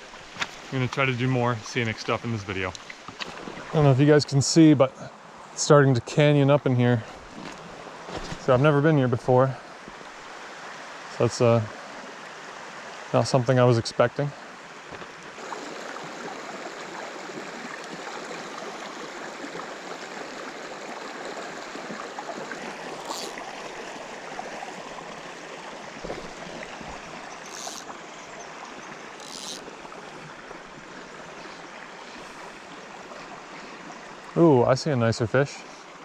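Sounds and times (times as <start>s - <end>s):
creek running over rocks: 0.0s - 36.0s.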